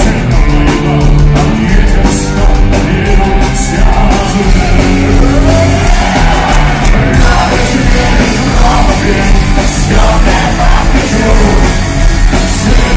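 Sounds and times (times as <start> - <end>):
punk rock band playing live: 0.0 - 12.9.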